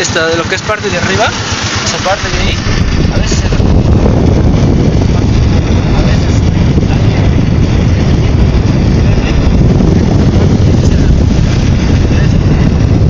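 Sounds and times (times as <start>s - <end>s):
small motorcycle engine running: 0.0s - 13.0s
wind rumble on microphone: 0.0s - 13.0s.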